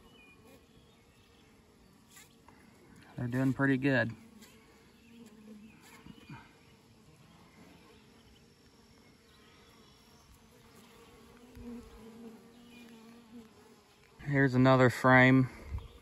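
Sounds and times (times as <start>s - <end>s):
bee flying past: 0.0s - 16.0s
bees buzzing: 0.0s - 16.0s.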